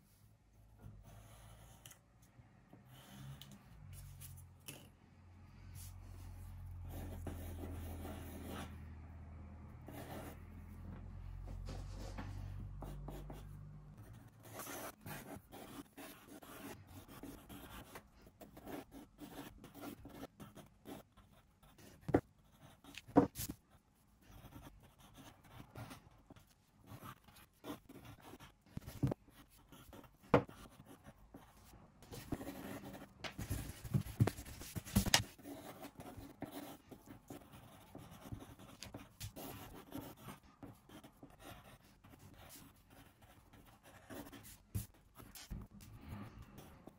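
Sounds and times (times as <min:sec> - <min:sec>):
pencil sketching on paper: 0:01.0 - 0:01.8, 0:05.8 - 0:08.9, 0:09.8 - 0:10.8, 0:11.6 - 0:23.6, 0:24.2 - 0:46.9.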